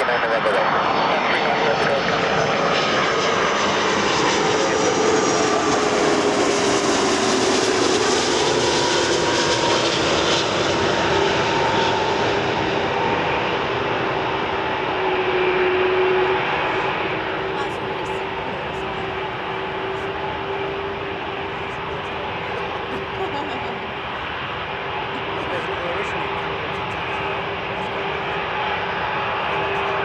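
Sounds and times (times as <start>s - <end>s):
airliner jet engines landing: 0.0s - 30.0s
jet engine whine falling in pitch: 0.0s - 30.0s.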